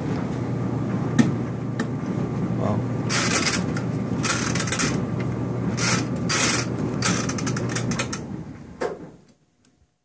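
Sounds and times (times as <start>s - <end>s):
dryer drum winding down: 0.0s - 9.2s
clothes dryer humming: 0.0s - 9.4s.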